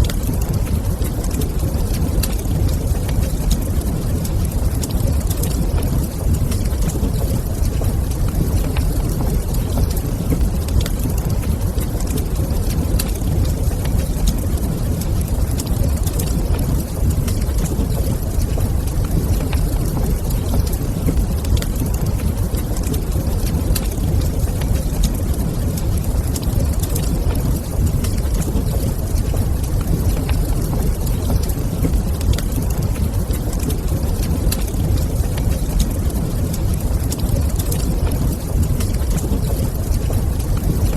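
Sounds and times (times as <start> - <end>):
fire crackling: 0.0 - 40.9
low fire rumble: 0.0 - 40.9.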